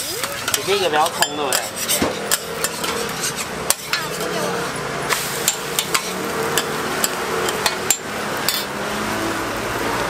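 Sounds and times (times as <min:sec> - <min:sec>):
metal spatula scraping on griddle: 0:00.0 - 0:08.8
hiss of frying: 0:00.0 - 0:09.6.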